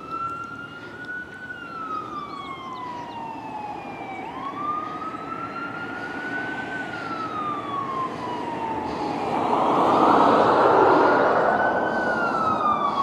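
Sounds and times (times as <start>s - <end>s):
ambulance siren wailing: 0.0s - 13.0s
road noise: 0.0s - 13.0s.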